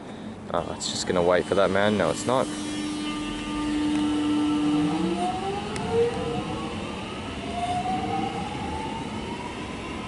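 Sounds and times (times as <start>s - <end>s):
electric train motor whine: 0.6s - 10.0s.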